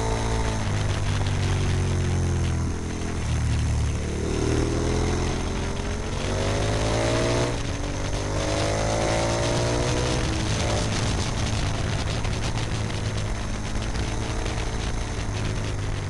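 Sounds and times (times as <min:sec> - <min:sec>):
motorcycle engine accelerating: 0:00.0 - 0:16.0
steady low drone: 0:00.0 - 0:16.0.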